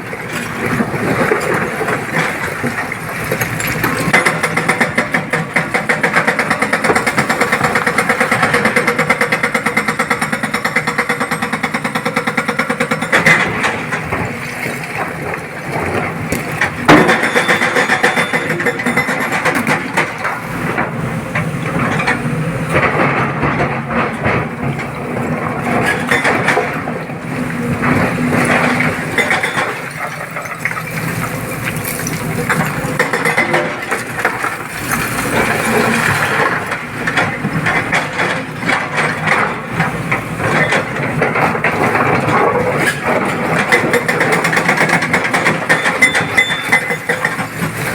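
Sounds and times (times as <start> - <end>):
excavator loading rock clatter: 0.0 - 47.9.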